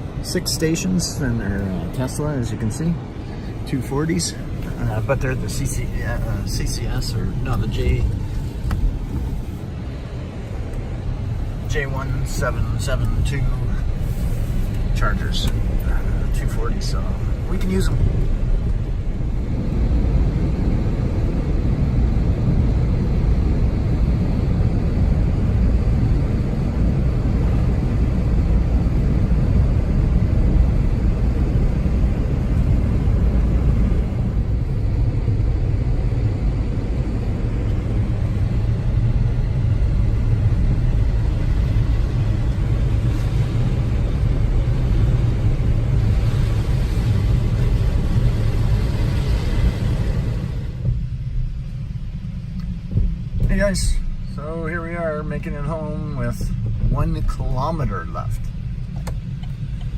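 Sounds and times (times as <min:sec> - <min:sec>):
road and tyre noise: 0:00.0 - 0:59.9.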